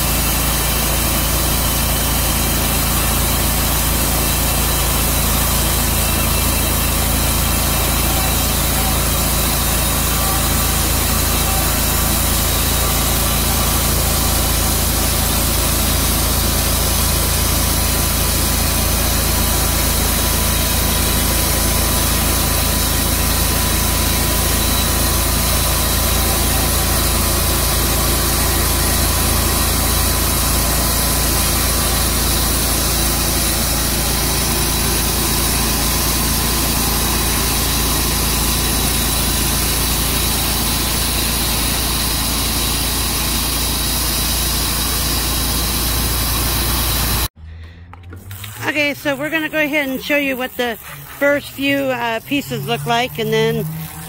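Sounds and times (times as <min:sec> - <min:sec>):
sawmill sawing log: 0:00.0 - 0:47.3, 0:48.3 - 0:54.0.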